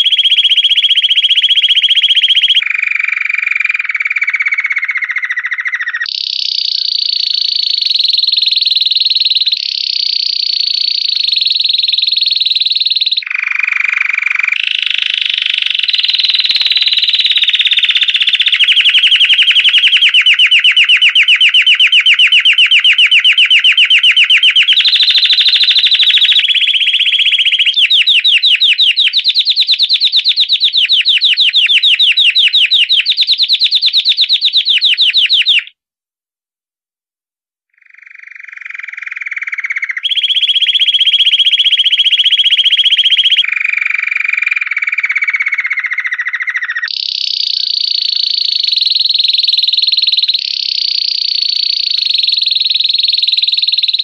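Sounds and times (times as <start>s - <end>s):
canary singing: 0.0s - 35.8s, 37.8s - 54.0s.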